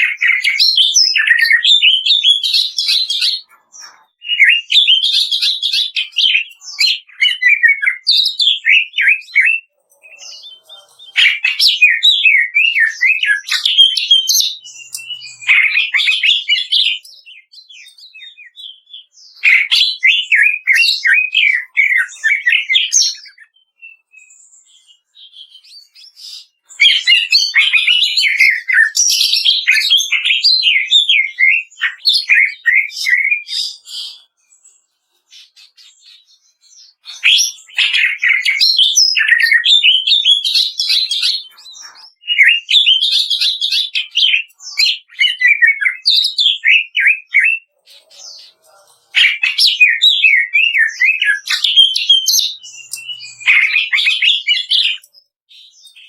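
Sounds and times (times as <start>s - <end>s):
bird singing chattering notes: 0.0s - 56.0s.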